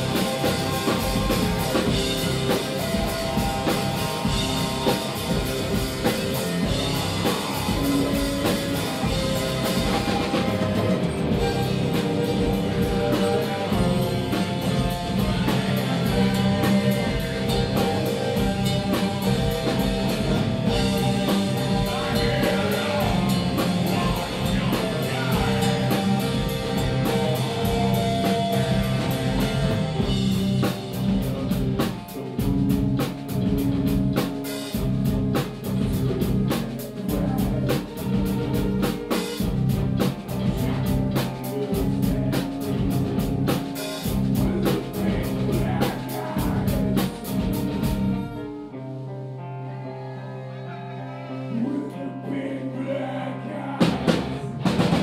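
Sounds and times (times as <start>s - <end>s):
person singing: 0.0s - 32.6s, 35.9s - 48.4s, 50.1s - 55.0s
drum kit: 0.0s - 48.6s, 53.8s - 55.0s
bass guitar: 0.0s - 55.0s
electric guitar: 0.0s - 55.0s.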